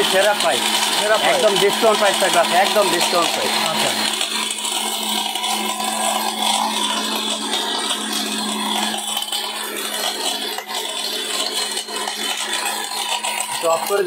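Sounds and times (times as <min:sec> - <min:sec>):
mixer grinder running: 0:00.0 - 0:14.0.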